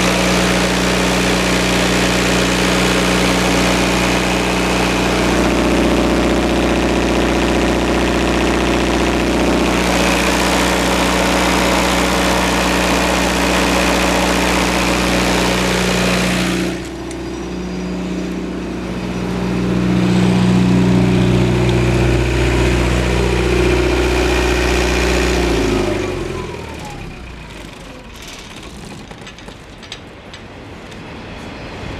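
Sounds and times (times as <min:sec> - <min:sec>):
engine winding to a stop: 0:00.0 - 0:30.4
diesel generator engine running: 0:00.0 - 0:31.9.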